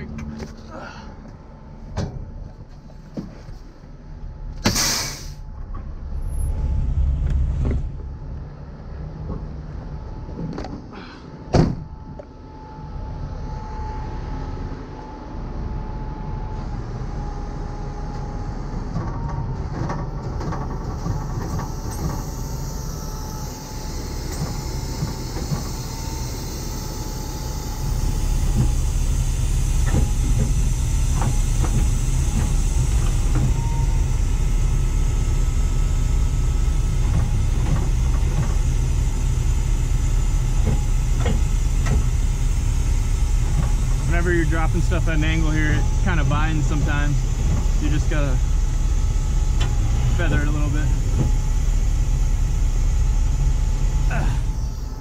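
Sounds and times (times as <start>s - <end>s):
thin steady whine: 0.0s - 19.7s, 20.6s - 55.0s
diesel engine idling: 0.0s - 55.0s.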